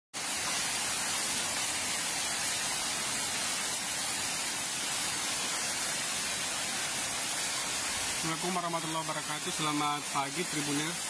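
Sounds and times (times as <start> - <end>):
heavy rain falling: 0.2 - 11.0.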